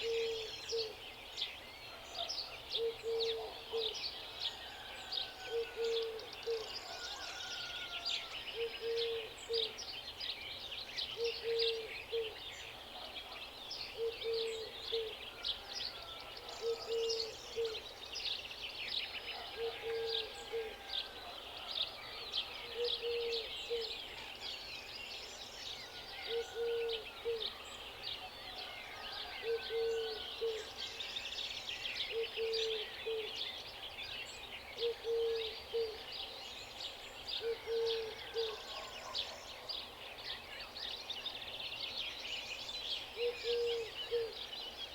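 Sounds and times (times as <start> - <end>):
small birds chirping and trilling: 0.0 - 44.9.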